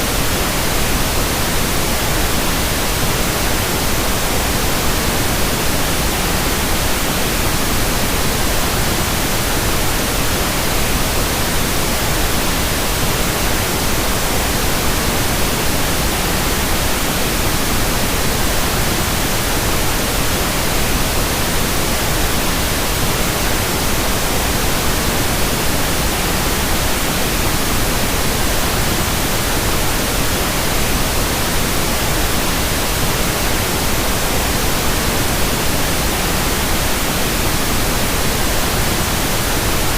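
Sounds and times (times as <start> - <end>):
steady broadband hiss: 0.0 - 39.9.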